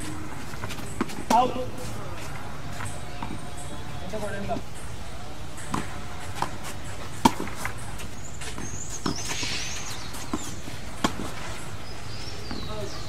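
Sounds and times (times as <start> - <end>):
tennis ball bouncing: 0.0 - 13.0
tennis ball struck by rackets: 0.0 - 13.0.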